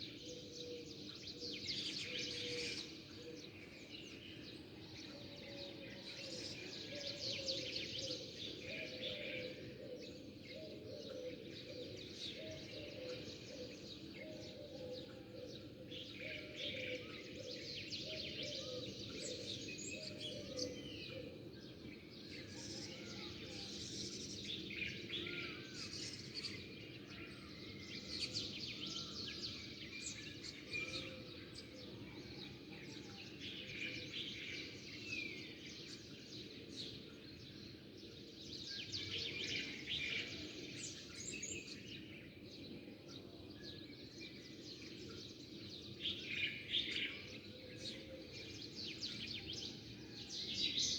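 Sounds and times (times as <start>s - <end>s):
birds chirping in chorus: 0.0s - 50.9s.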